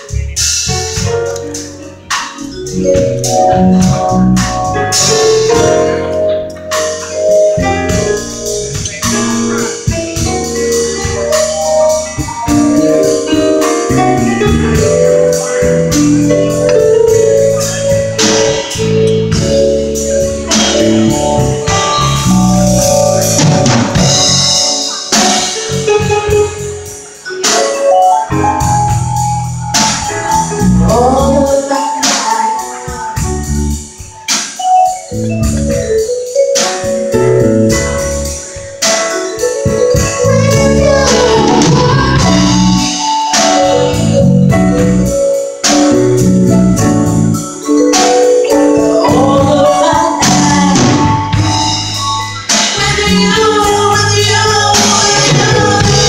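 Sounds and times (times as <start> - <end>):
drum kit: 0.0 - 56.0
mallet keyboard solo: 0.0 - 56.0.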